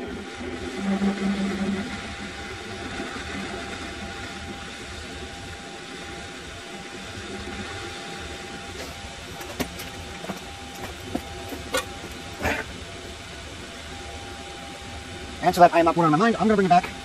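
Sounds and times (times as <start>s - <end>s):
lathe motor humming with whine: 0.0s - 17.0s.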